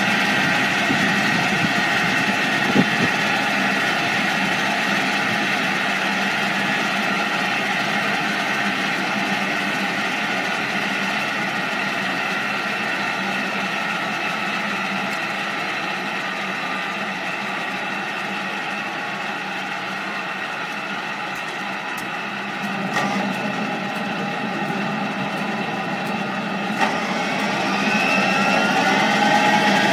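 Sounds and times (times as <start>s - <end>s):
jet engine whine and hiss: 0.0s - 29.9s.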